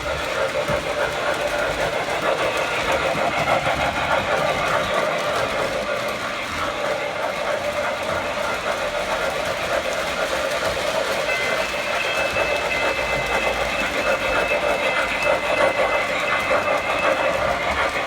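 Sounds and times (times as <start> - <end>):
model trains whirring and rattling: 0.0 - 18.0.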